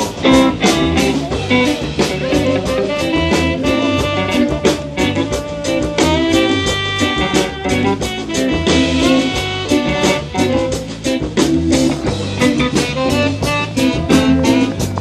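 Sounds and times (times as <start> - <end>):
live jazz band playing: 0.0 - 15.0.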